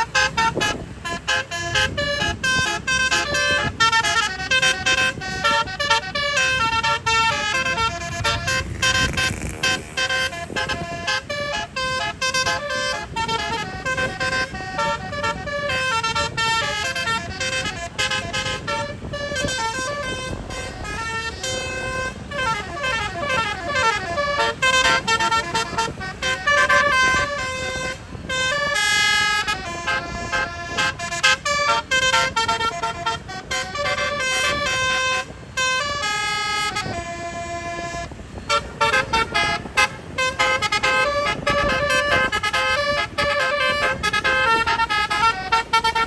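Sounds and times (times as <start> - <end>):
bus horns playing melodic tunes: 0.0 - 46.0.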